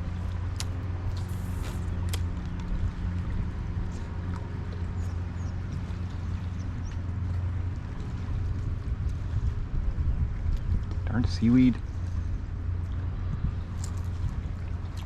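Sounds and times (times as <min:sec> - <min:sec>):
water lapping against kayak hull: 0:00.0 - 0:11.1, 0:11.8 - 0:15.0
wind rumble on microphone: 0:00.0 - 0:15.0.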